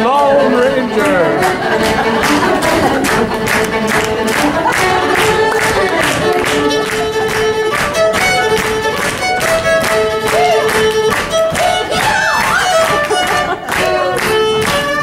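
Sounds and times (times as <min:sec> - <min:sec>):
steady backing beat: 0:00.0 - 0:15.0
violin slow melody: 0:00.0 - 0:15.0.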